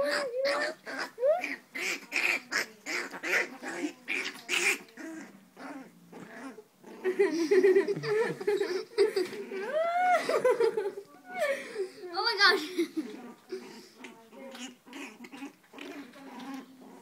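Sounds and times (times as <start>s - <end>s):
puppy growling: 0.0s - 10.0s, 13.0s - 17.0s.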